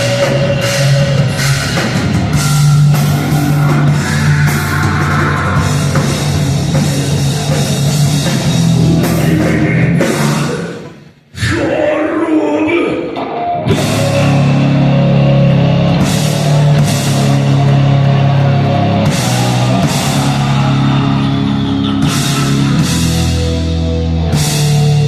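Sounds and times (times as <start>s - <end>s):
drum kit: 0.0s - 11.0s, 13.2s - 25.0s
bass guitar: 0.0s - 11.7s, 13.0s - 25.0s
distorted electric guitars: 0.0s - 25.0s.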